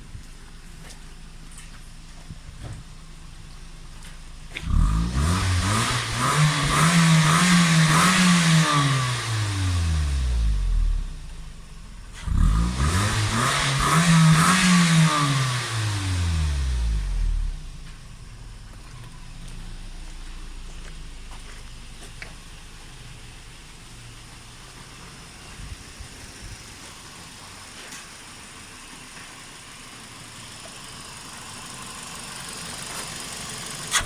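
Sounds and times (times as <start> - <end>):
car engine revving and idling: 0.4 - 34.0.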